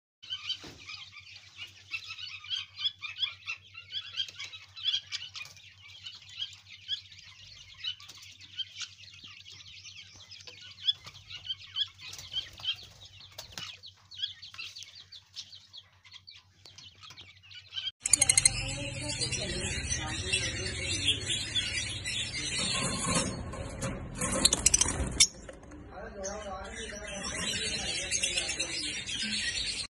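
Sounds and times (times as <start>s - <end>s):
chicks peeping: 0.2s - 29.9s.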